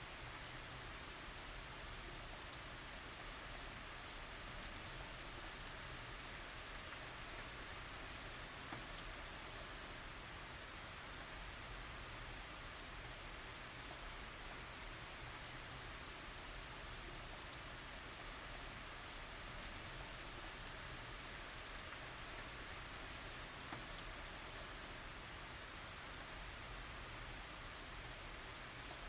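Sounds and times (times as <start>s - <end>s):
light rain falling: 0.0s - 29.0s.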